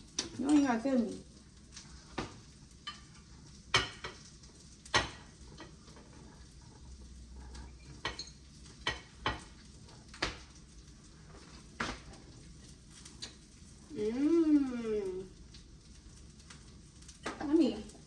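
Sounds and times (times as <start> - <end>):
eggs sizzling in a pan: 0.0 - 18.0.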